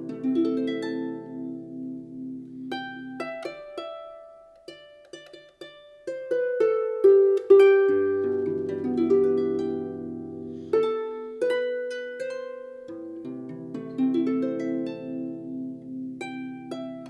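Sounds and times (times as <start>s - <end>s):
plucked harp-like melody: 0.0s - 17.0s.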